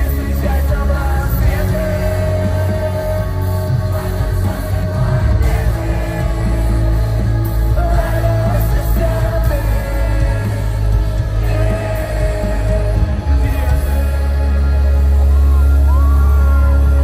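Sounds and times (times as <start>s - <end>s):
electric guitar: 0.0s - 17.0s
heavy bass: 0.0s - 17.0s
person singing: 0.0s - 17.0s
rock band playing live: 0.0s - 17.0s.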